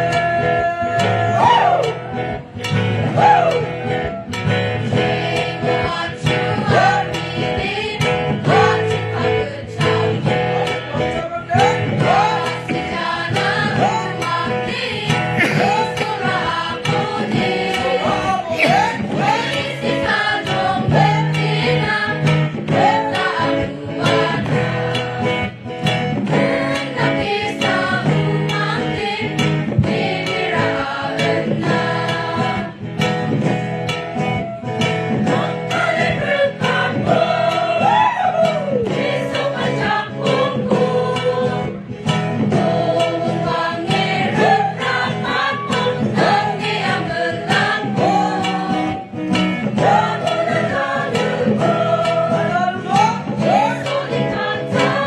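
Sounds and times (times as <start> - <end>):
acoustic guitar: 0.0 - 55.0
women's choir singing: 3.0 - 10.8, 11.6 - 33.2, 33.8 - 55.0.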